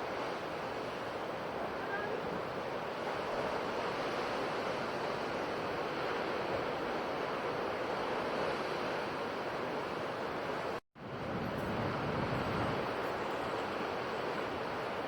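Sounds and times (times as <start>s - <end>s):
sea surf washing on shore: 0.0s - 15.0s.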